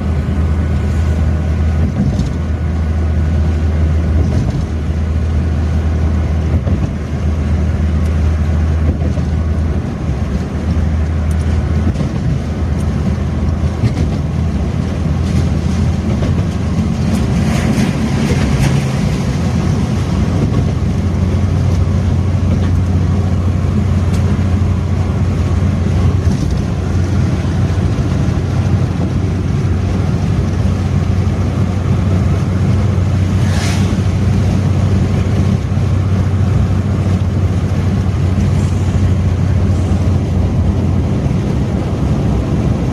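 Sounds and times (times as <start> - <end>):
car engine and road noise: 0.0 - 42.9
rushing noise: 0.0 - 42.9.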